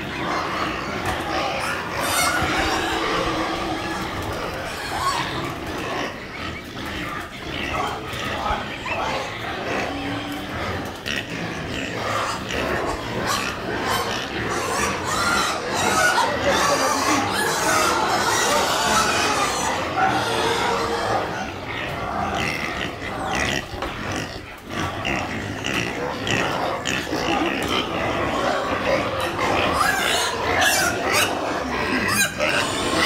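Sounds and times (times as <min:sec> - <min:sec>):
livestock calling and squealing: 0:00.0 - 0:33.0.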